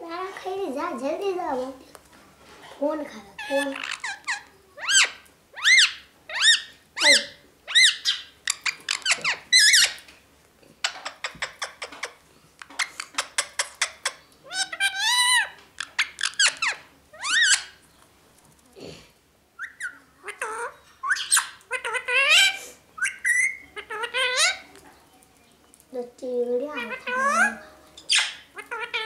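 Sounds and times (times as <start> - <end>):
bird chirping: 3.4 - 10.1, 10.8 - 18.2, 19.6 - 29.0.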